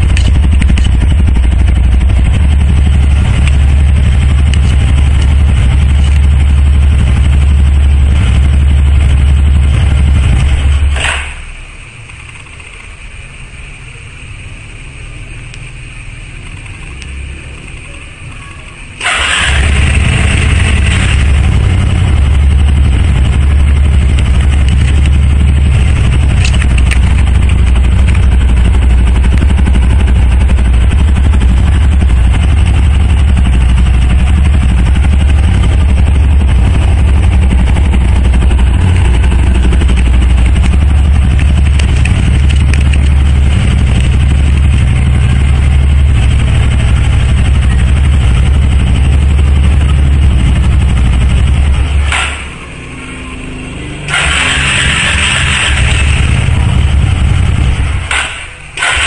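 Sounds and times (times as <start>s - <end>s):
small motorcycle engine idling: 0.0s - 59.0s.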